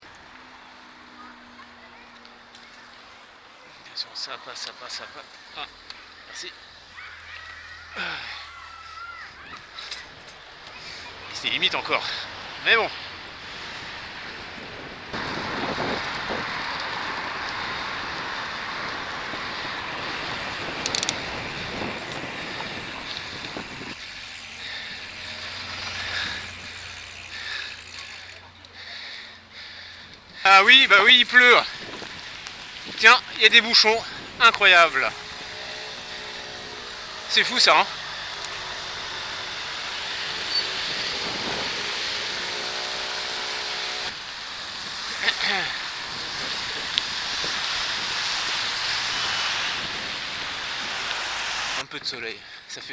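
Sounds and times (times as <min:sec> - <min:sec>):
road traffic rushing: 0:00.0 - 0:52.7
wind hiss: 0:07.9 - 0:28.3, 0:29.6 - 0:52.2.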